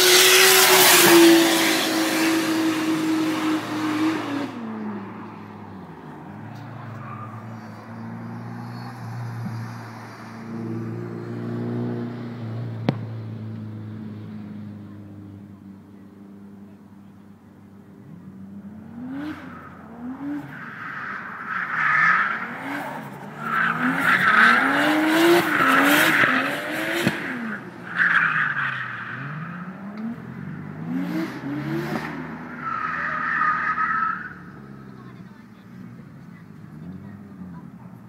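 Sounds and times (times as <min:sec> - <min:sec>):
car engine revving: 0:00.0 - 0:15.6, 0:18.0 - 0:38.0.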